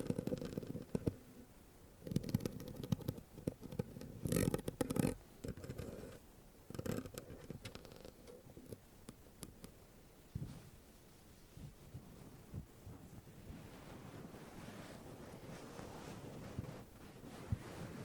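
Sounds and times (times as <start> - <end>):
hand scratching microphone: 0.0 - 1.2, 2.0 - 8.8, 11.6 - 18.0.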